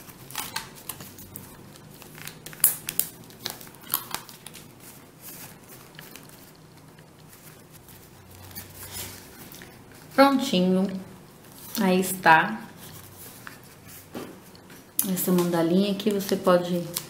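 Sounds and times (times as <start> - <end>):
paper crinkling and rustling: 0.0 - 12.0, 12.7 - 17.0.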